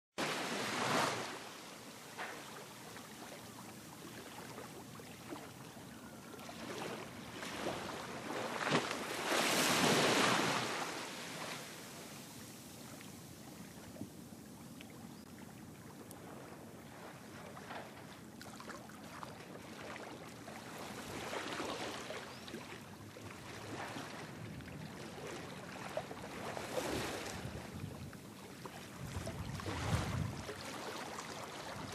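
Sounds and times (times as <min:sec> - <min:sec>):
waves washing: 0:00.2 - 0:14.1, 0:15.9 - 0:31.9
wind: 0:00.2 - 0:31.9.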